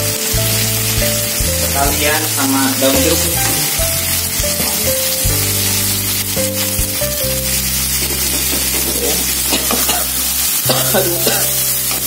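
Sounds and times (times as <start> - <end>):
vegetables sizzling in hot oil: 0.0 - 12.0
wooden spatula scraping wok: 0.6 - 12.0.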